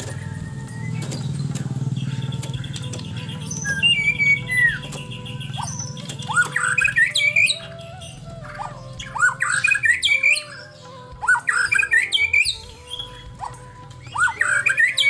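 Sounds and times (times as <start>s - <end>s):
bird singing harsh sweeping notes: 0.0s - 15.0s.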